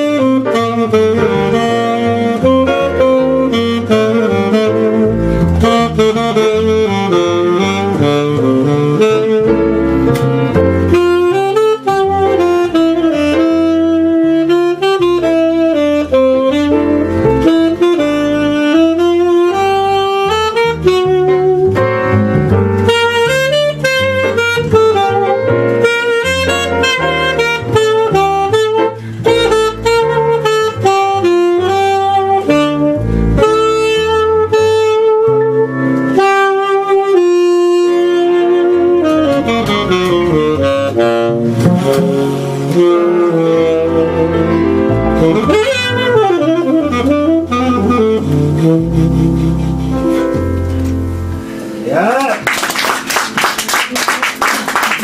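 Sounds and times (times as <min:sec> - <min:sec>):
double bass: 0:00.0 - 0:52.0
piano accompaniment: 0:00.0 - 0:55.0
tenor saxophone jazz melody: 0:00.0 - 0:55.0.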